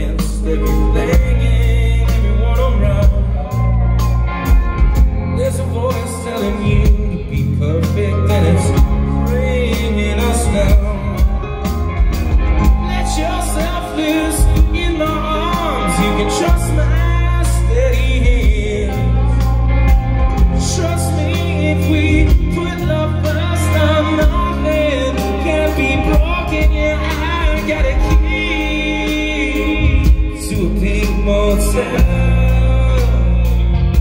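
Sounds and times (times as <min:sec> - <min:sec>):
man singing into a microphone: 0:00.0 - 0:04.0, 0:05.0 - 0:11.8, 0:12.5 - 0:34.0
bass guitar: 0:00.0 - 0:34.0
drums: 0:00.0 - 0:34.0
electric guitars: 0:00.0 - 0:34.0.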